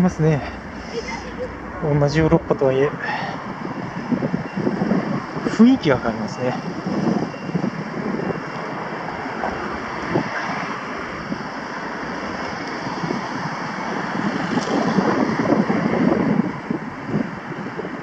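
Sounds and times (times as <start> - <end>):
cars driving past: 0.0 - 17.9
wind buffeting microphone: 0.0 - 18.0.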